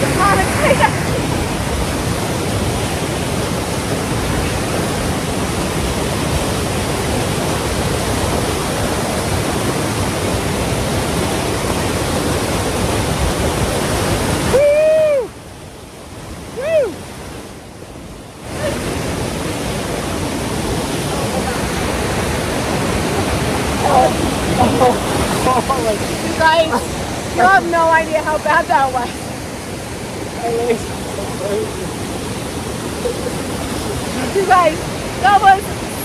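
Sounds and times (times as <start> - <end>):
river torrent rushing: 0.0 - 36.0.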